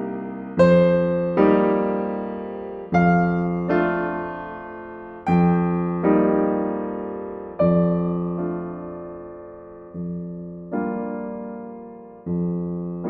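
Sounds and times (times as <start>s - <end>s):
soft solo piano chords: 0.0s - 13.0s.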